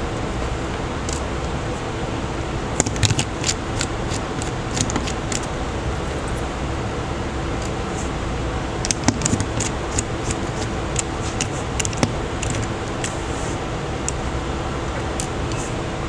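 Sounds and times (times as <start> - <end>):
steady fan-like hum: 0.0 - 16.0.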